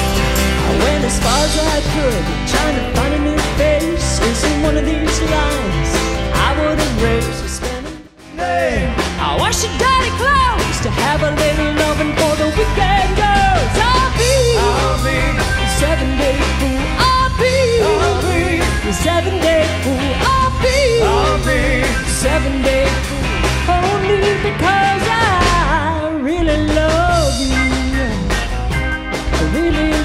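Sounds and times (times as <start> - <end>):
rock band playing live: 0.0 - 30.0
person singing: 0.6 - 28.5, 29.3 - 30.0.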